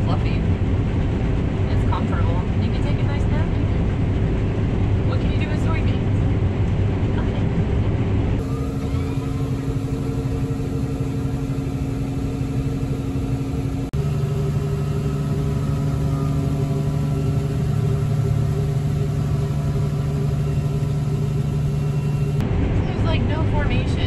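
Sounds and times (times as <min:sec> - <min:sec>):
combine harvester engine hum: 0:00.0 - 0:24.0.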